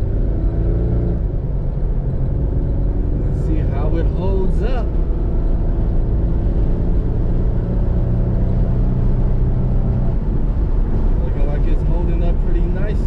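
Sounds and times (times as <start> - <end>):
car engine humming: 0.0 - 13.0
road and wind rumble: 0.0 - 13.0.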